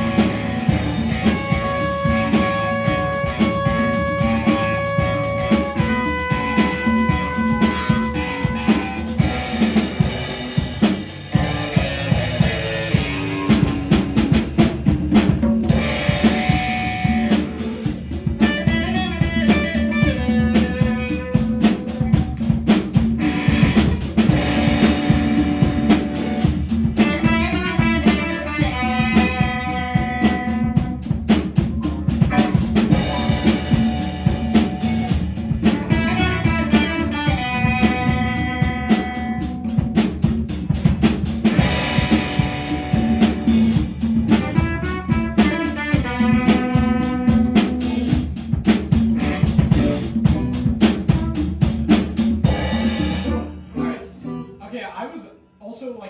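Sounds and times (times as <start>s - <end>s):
electric guitar lines: 0.0s - 14.6s, 15.7s - 51.8s
drum kit with snare and bass drum: 0.0s - 53.7s.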